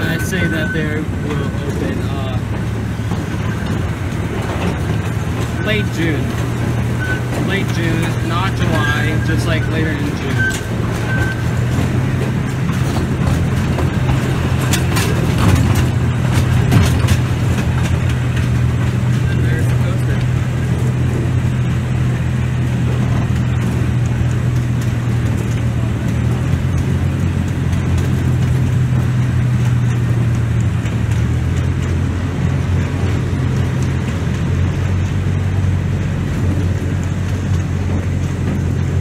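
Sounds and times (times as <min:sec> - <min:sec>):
motor vehicle rumbling: 0:00.0 - 0:39.0.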